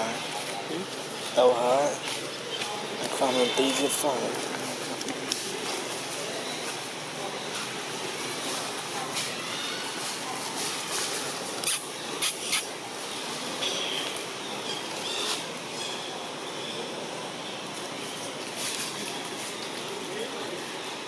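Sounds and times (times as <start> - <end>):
dry leaves crackling: 0.0 - 12.2, 12.8 - 16.2, 17.6 - 20.7
outdoor background hiss: 0.0 - 21.0.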